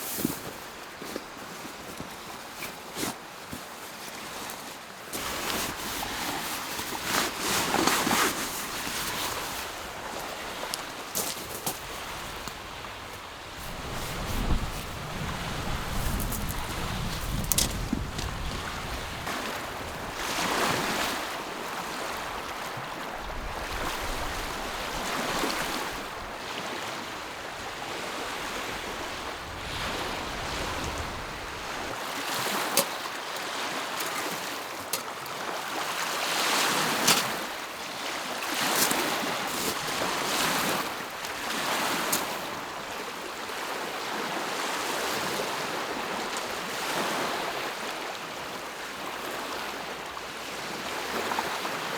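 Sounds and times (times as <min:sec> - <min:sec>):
waves washing onto shore: 0:04.1 - 0:51.9.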